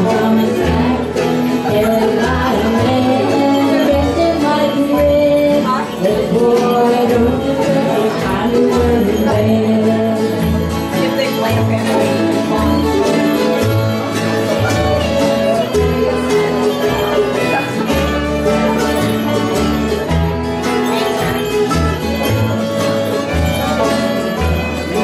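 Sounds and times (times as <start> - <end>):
banjo: 0.0 - 25.0
fiddle: 0.0 - 25.0
guitars: 0.0 - 25.0
upright bass: 0.0 - 25.0.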